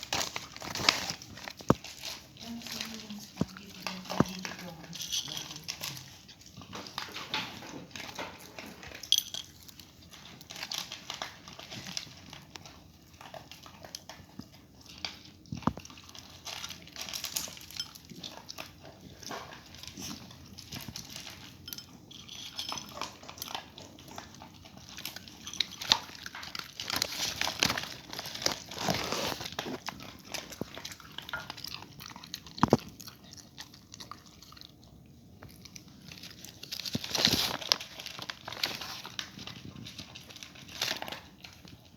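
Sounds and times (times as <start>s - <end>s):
dog chewing and crunching food: 0.0s - 41.9s.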